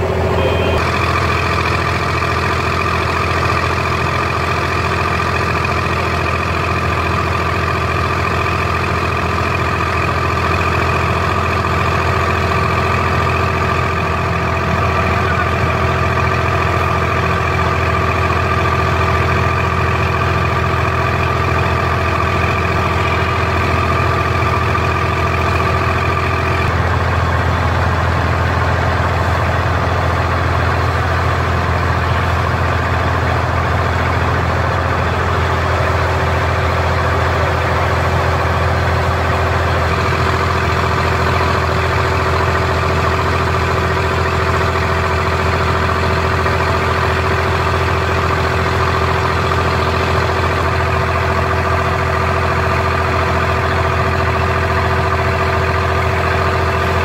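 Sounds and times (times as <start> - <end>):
boat diesel engine droning: 0.0 - 57.0
high engine whine: 0.0 - 57.0.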